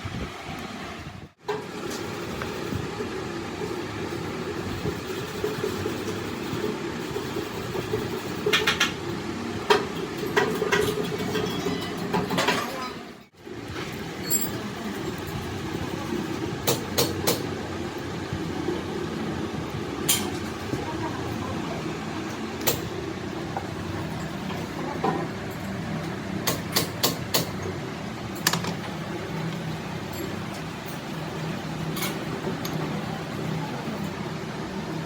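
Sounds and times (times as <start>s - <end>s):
workshop machinery droning: 0.0s - 35.0s.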